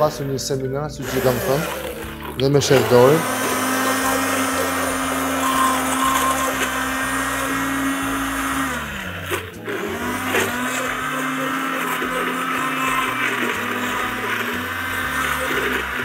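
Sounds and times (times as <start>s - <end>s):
immersion blender running: 1.0s - 16.0s.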